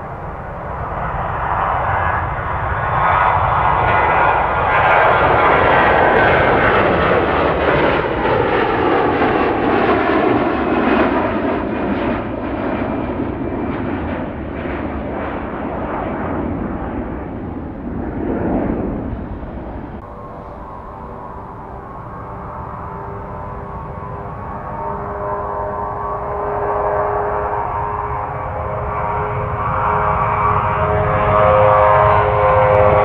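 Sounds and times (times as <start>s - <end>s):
jet engine roar with whine: 0.0s - 33.0s.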